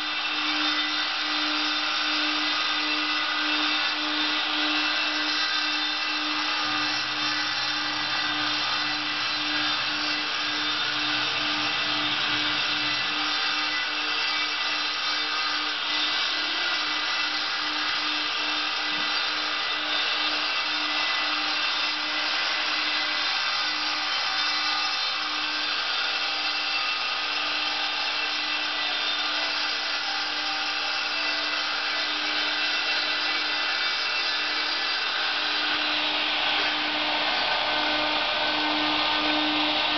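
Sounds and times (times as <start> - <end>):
power saw running: 0.0 - 39.9.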